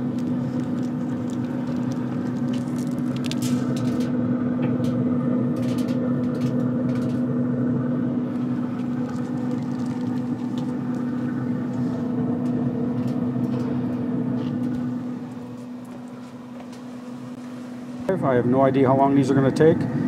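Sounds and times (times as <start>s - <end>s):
grill fan electric hum: 0.0s - 20.0s.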